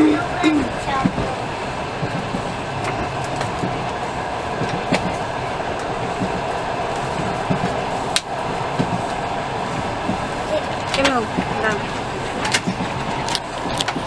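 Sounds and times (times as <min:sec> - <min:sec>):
train carriage running noise: 0:00.0 - 0:14.0.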